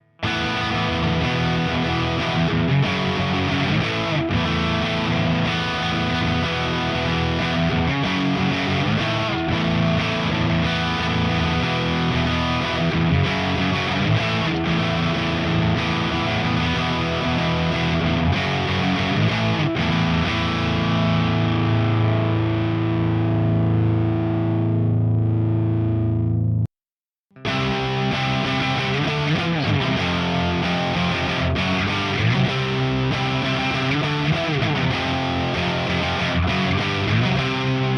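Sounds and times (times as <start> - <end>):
distorted electric guitar riff: 0.0 - 26.7, 27.3 - 37.9.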